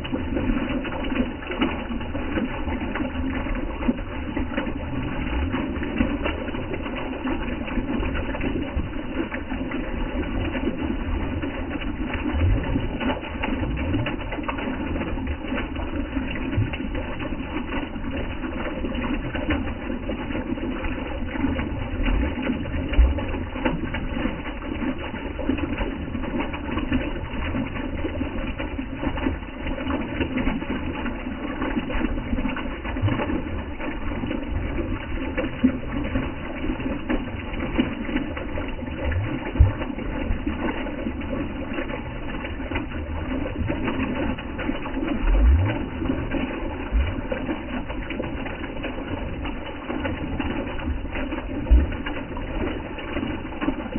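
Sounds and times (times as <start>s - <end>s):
stream splashing and gurgling: 0.0s - 53.9s.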